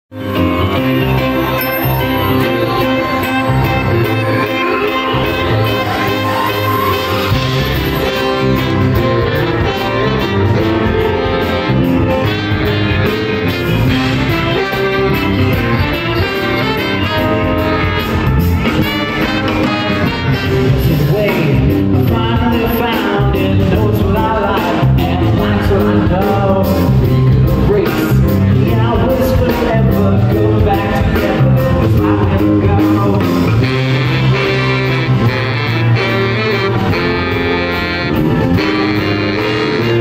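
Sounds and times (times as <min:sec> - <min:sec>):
horn section: 0:00.1 - 0:40.0
live band playing: 0:00.1 - 0:40.0.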